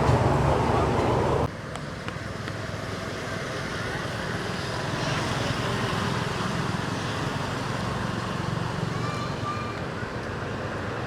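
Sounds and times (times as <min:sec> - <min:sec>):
outdoor background rumble and hiss: 0:00.0 - 0:11.0.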